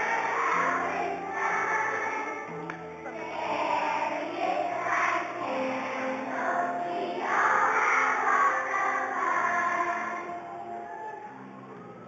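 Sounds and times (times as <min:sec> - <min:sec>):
children singing together: 0:00.0 - 0:11.5
musical accompaniment: 0:00.0 - 0:12.0.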